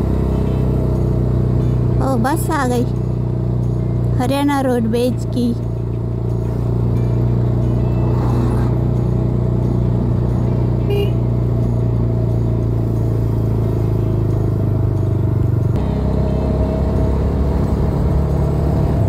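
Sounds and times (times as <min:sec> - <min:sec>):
car engine droning: 0:00.0 - 0:19.0
road noise: 0:00.0 - 0:19.0.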